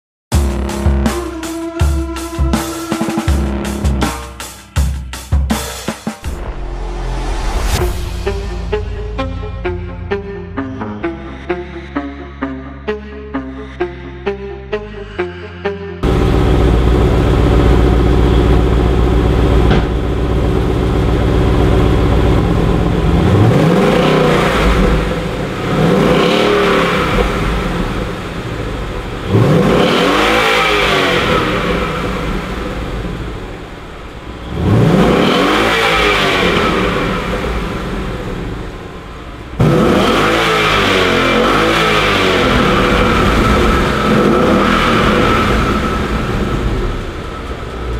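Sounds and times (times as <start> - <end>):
car engine idling and revving: 0.3 - 13.6, 16.0 - 47.9.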